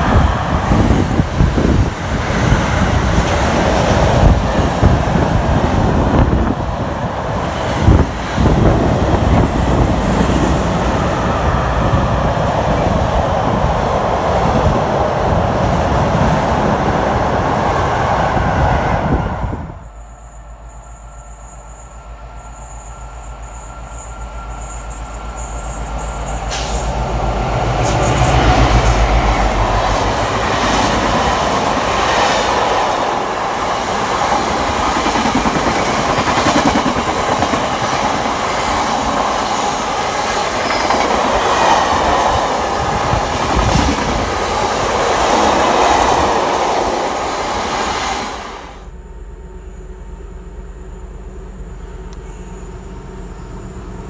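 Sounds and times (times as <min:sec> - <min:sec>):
diesel locomotive rumble: 0:00.0 - 0:54.0.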